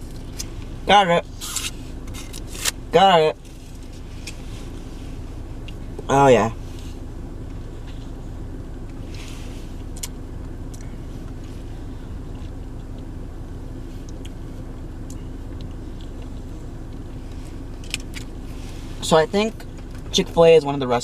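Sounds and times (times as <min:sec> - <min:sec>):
car idling hum: 0:00.0 - 0:21.0.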